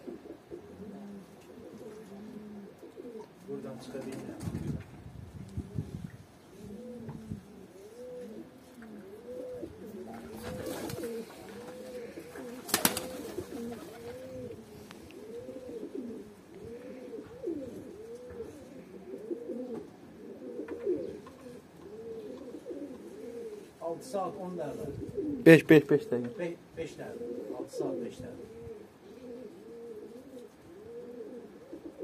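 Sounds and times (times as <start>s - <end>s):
pigeons cooing: 0.0s - 4.3s, 5.3s - 32.0s.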